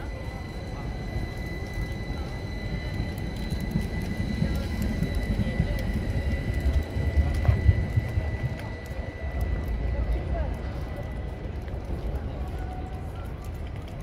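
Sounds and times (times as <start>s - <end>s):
tram passing rumble: 0.0s - 13.6s.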